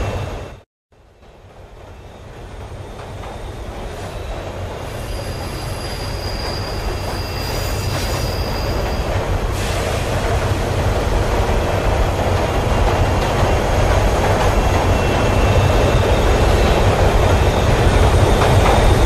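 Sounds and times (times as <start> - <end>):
subway train rumbling in tunnel: 0.0 - 19.0
wheels rumbling on rails: 0.0 - 19.0.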